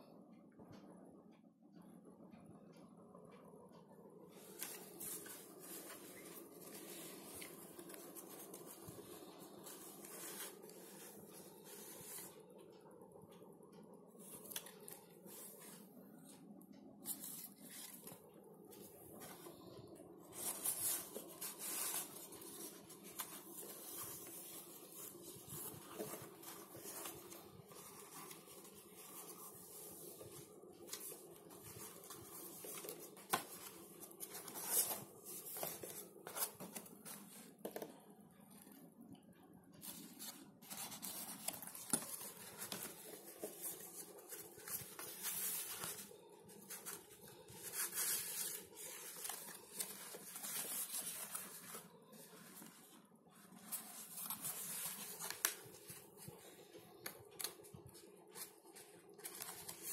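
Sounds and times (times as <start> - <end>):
paper and cardstock rustling: 4.3 - 12.5, 17.0 - 38.8, 39.8 - 59.9.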